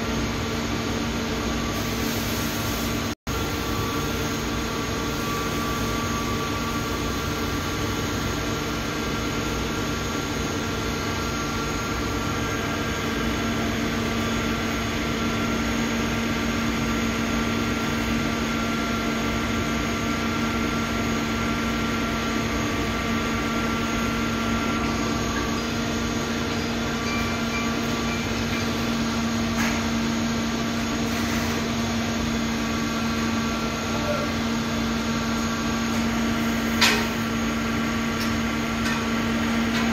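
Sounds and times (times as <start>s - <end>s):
machinery humming and hissing: 0.0s - 39.9s.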